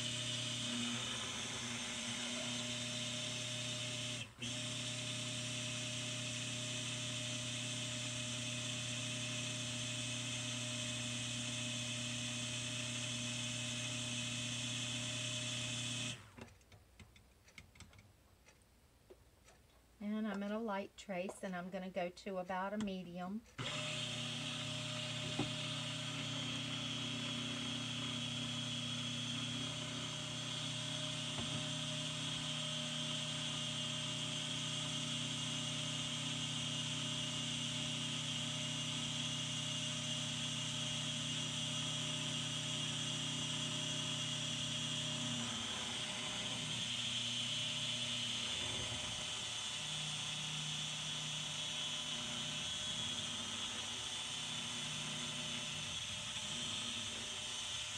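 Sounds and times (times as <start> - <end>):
stick blender humming: 0.0 - 16.5, 22.8 - 57.9.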